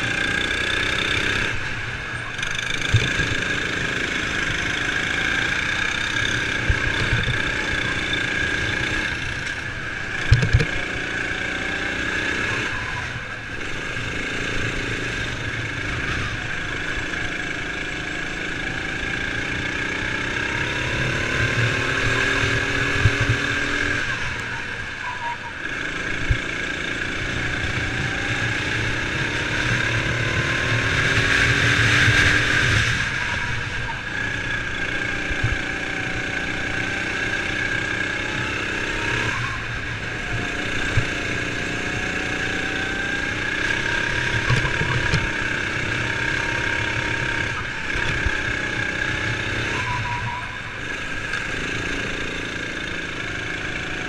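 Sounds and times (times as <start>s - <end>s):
kart engine revving: 0.0s - 54.0s.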